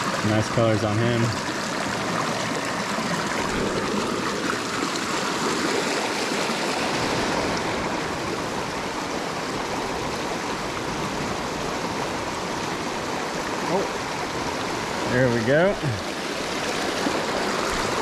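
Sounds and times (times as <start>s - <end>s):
creek running over stones: 0.0s - 18.0s.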